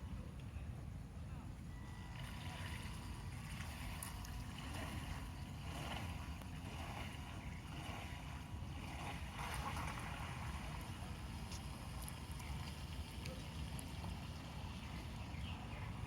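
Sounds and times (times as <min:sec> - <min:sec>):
water splashing and lapping: 0:01.9 - 0:16.0
wind buffeting microphone: 0:02.0 - 0:16.0.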